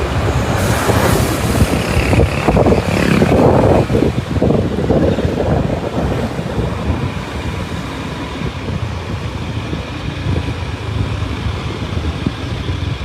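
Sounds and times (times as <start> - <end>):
rail vehicle rumbling on track: 0.0 - 13.0.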